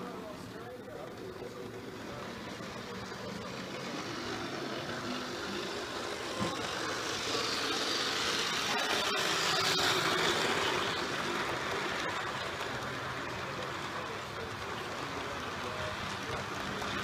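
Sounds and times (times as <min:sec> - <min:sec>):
model train motor hum and wheel rumble: 0:00.0 - 0:17.0.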